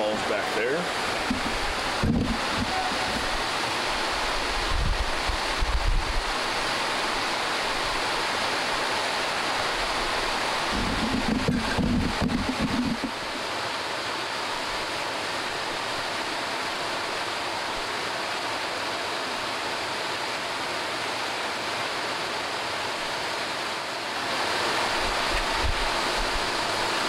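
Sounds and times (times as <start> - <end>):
small waterfalls rushing: 0.0 - 27.0.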